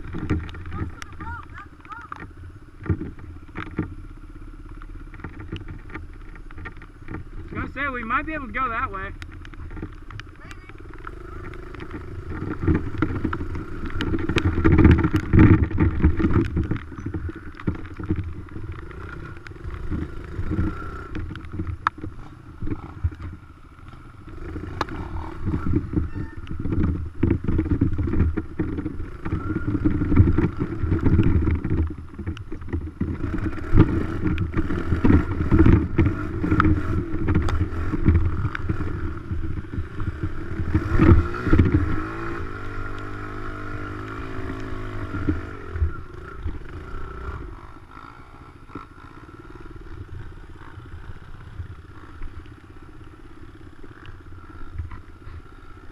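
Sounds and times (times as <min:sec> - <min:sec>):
dirt bike engine revving and idling: 0:00.0 - 0:55.9.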